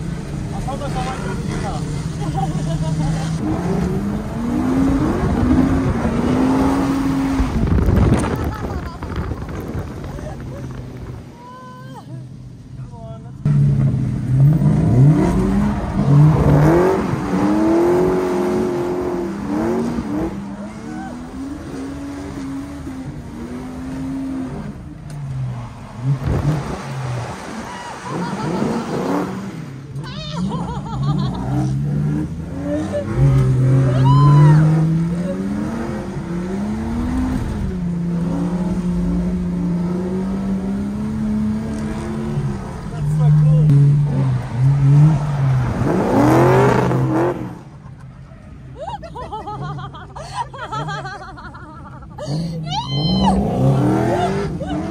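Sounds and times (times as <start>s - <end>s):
car engine revving: 0.0s - 11.3s, 13.4s - 48.8s, 50.6s - 54.9s.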